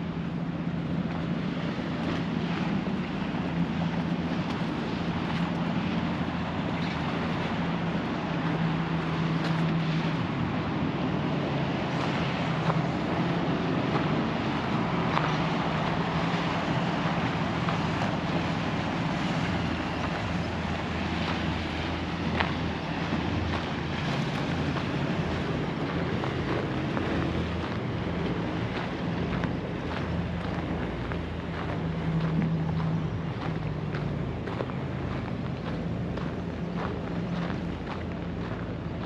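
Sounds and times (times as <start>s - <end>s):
low engine hum: 0.0s - 39.0s
rushing river water: 0.0s - 39.0s.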